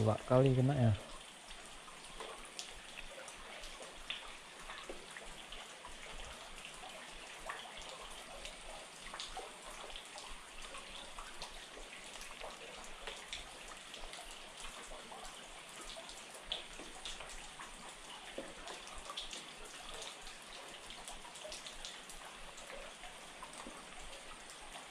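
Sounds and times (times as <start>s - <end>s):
rain dripping and pattering: 0.0s - 24.9s.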